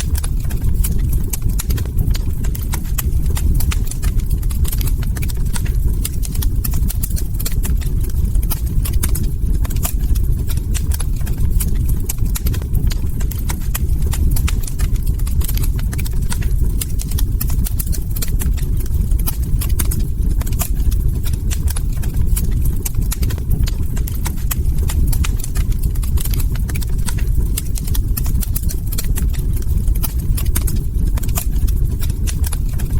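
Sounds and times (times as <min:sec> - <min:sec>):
log fire crackling: 0:00.0 - 0:32.9.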